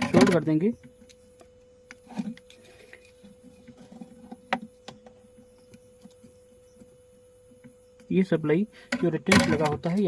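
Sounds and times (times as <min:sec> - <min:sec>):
faint steady tone: 0:00.1 - 0:09.9.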